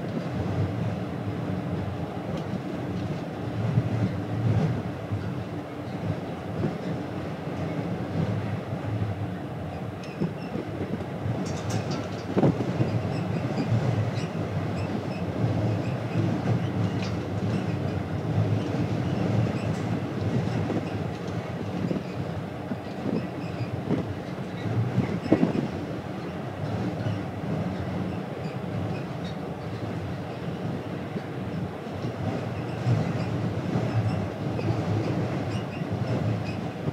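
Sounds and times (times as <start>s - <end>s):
ferry engine rumble: 0.0s - 36.9s.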